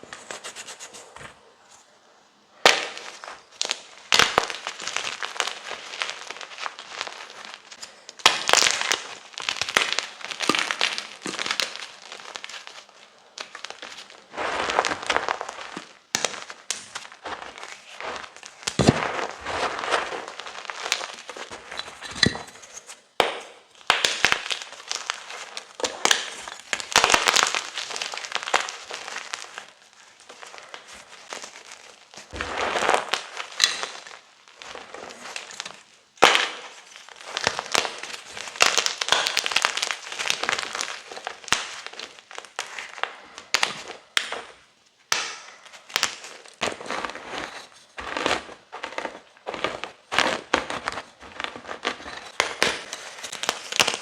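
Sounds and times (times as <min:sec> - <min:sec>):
chalk crunching: 0:00.0 - 0:01.9, 0:02.7 - 0:23.1, 0:23.8 - 0:44.6, 0:45.5 - 0:54.0.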